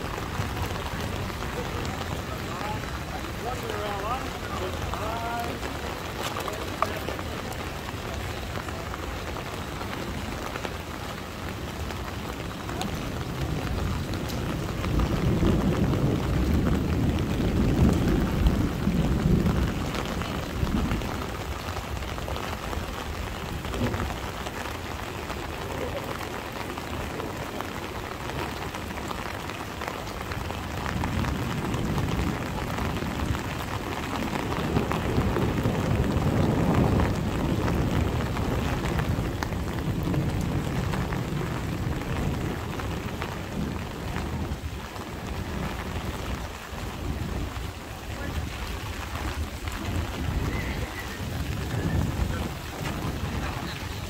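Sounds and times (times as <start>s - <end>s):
heavy rain pouring: 0.0s - 54.0s
thunder rumbling: 0.0s - 54.0s.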